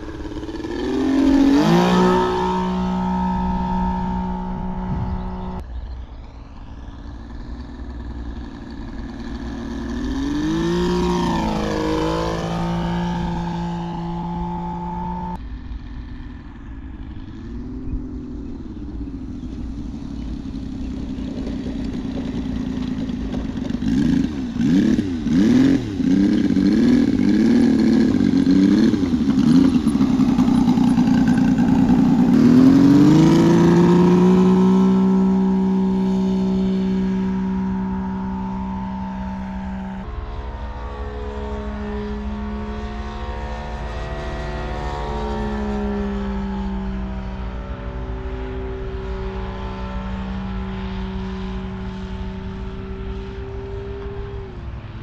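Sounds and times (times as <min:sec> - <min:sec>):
low wind noise: 0:00.0 - 0:55.0
model plane engine: 0:00.0 - 0:55.0.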